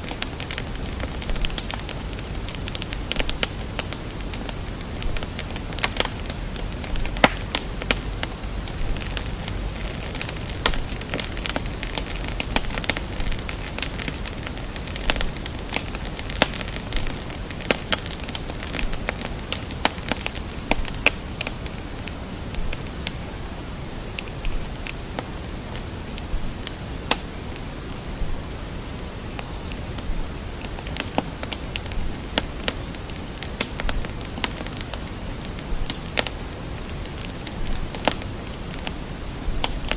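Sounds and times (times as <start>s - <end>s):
crackling fire: 0.0s - 39.9s.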